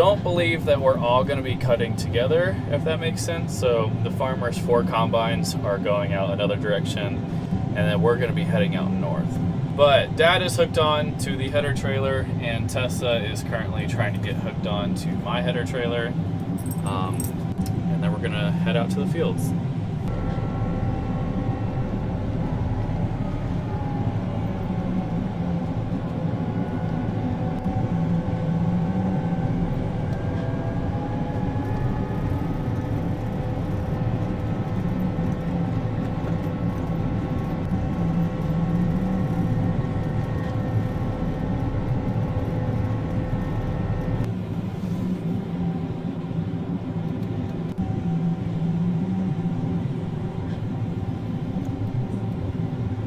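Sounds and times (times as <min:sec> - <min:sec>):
vehicle engine droning: 0:00.0 - 0:53.0
whining tones: 0:00.0 - 0:53.0.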